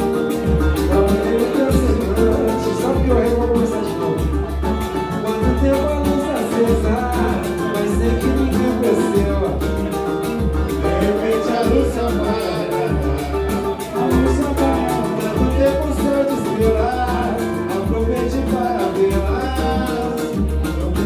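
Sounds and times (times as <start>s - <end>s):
low bass beat: 0.0s - 21.0s
plucked string instrument: 0.0s - 21.0s
strummed small guitar: 0.0s - 21.0s
man singing: 0.8s - 21.0s.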